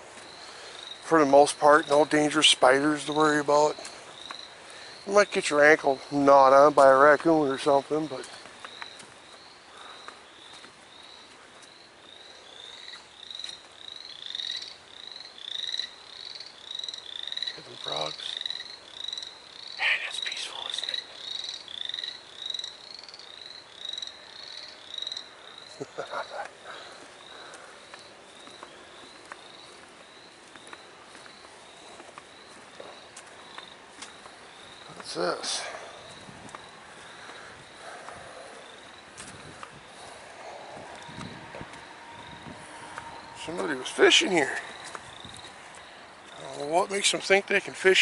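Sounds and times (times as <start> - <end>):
frog chirping: 0.0 - 47.2.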